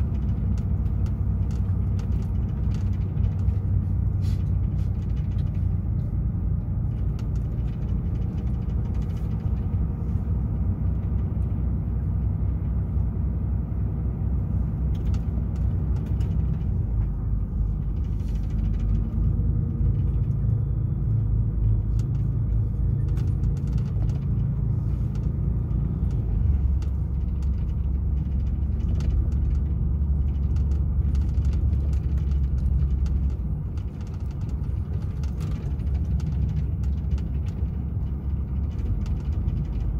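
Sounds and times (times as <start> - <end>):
diesel truck engine drone: 0.0 - 39.9
road noise: 0.0 - 39.9.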